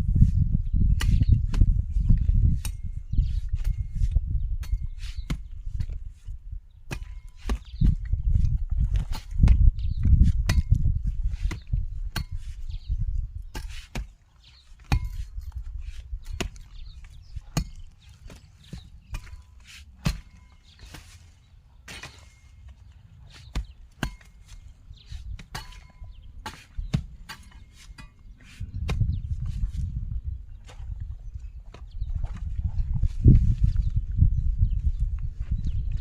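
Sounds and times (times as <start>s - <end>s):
weeding tool chopping dry soil: 0.3s - 30.0s.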